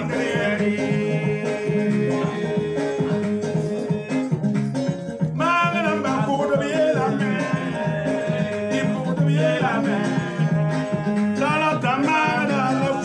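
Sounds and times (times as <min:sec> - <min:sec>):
person singing: 0:00.0 - 0:13.0
plucked string instruments: 0:00.0 - 0:13.0
steady bass line: 0:00.0 - 0:13.0.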